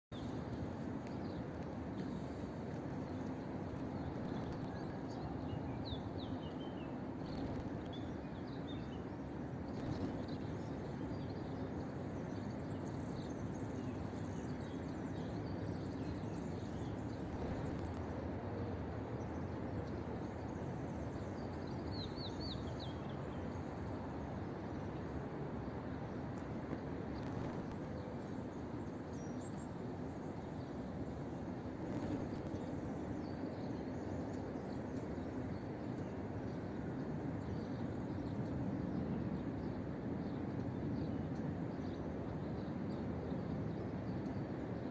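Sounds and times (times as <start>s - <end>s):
outdoor background noise: 0.1s - 44.9s
small birds chirping: 0.1s - 44.9s.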